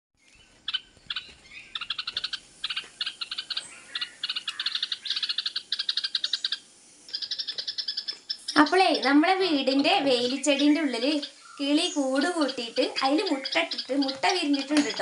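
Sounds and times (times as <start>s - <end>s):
bird alarm chattering: 0.3s - 15.0s.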